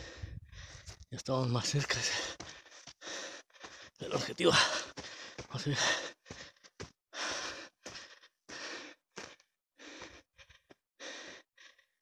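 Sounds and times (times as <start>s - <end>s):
person breathing hard: 0.0s - 0.9s, 2.3s - 4.0s, 4.6s - 12.0s.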